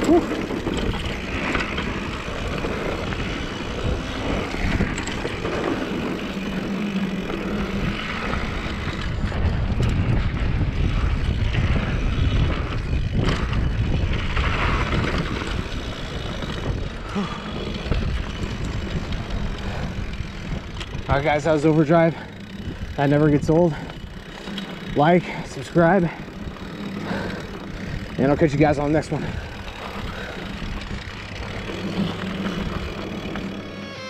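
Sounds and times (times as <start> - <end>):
bike knocks and rattles: 0.0 - 33.6
wind buffeting microphone: 0.0 - 33.6
bike tyres rumbling on dirt: 0.0 - 33.9.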